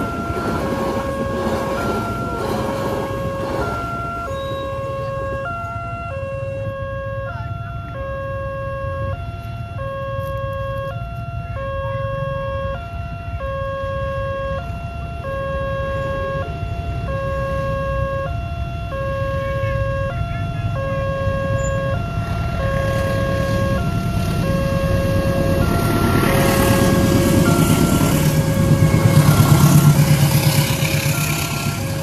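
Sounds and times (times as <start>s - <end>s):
two-tone crossing alarm: 0.0s - 32.0s.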